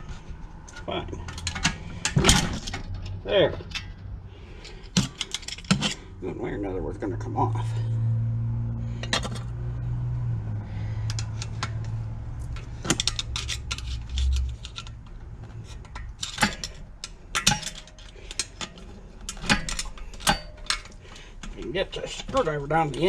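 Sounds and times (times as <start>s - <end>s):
hand tools and metal parts clinking: 0.0s - 6.3s, 8.9s - 9.6s, 10.7s - 23.0s
low steady hum: 0.0s - 23.0s.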